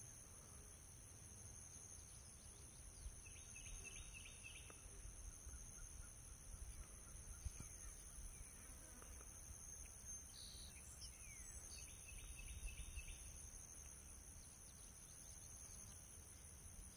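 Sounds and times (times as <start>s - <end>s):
faint bird chirps: 1.7s - 16.9s.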